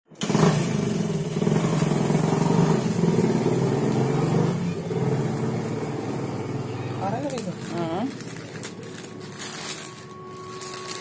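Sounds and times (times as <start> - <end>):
engine running: 0.1 - 11.0.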